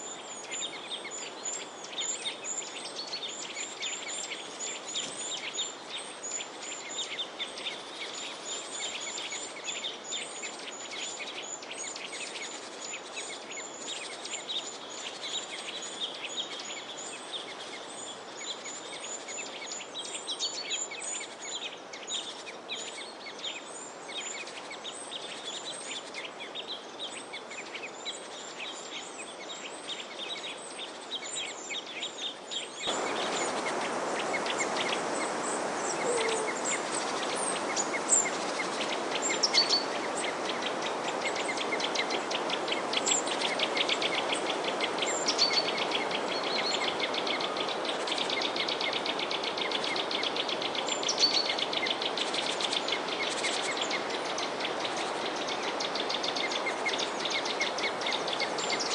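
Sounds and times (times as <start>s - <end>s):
small birds chirping: 0.0s - 58.9s
steady outdoor hiss: 0.0s - 58.9s.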